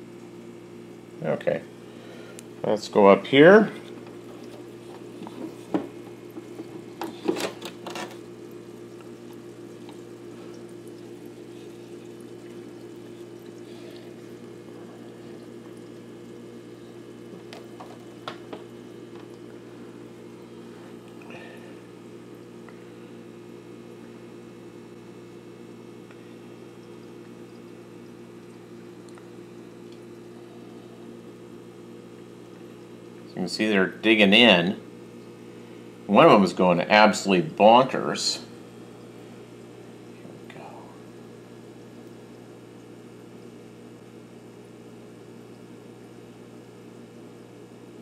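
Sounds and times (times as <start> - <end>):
aquarium filter bubbling: 0.0 - 48.0.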